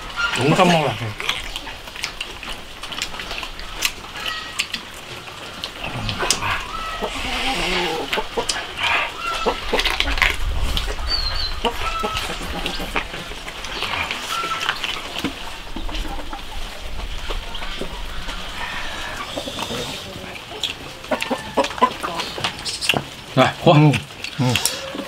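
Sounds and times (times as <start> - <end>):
chickens clucking: 0.0 - 25.0
people chewing: 0.0 - 25.0.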